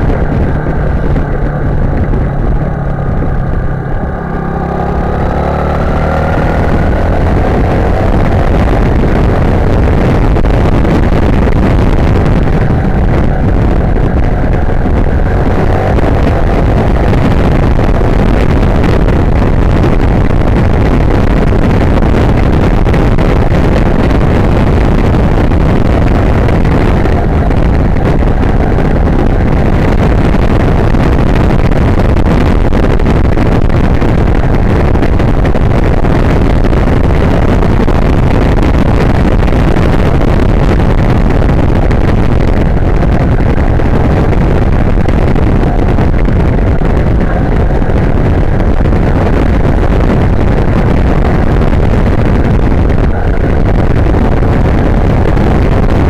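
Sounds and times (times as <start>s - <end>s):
motorcycle engine accelerating: 0.0s - 56.0s
wind rushing on microphone: 0.0s - 56.0s.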